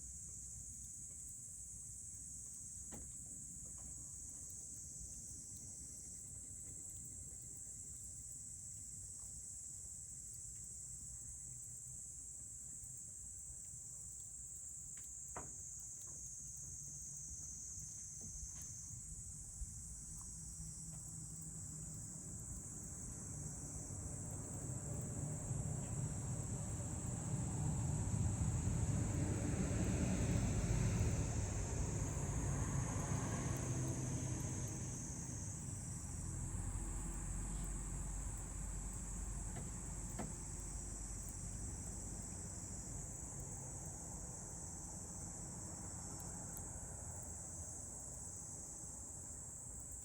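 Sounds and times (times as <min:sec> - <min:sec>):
night insects chorus: 0:00.0 - 0:50.0.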